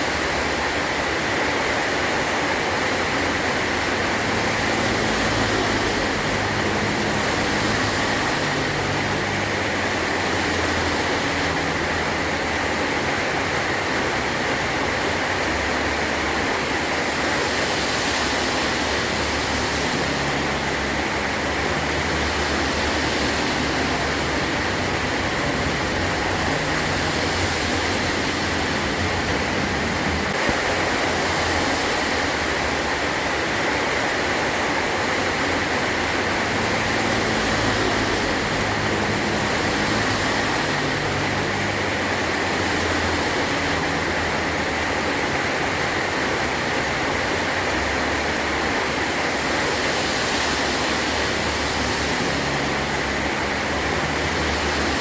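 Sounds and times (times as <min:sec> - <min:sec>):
heavy rain on a metal roof: 0:00.0 - 0:55.0.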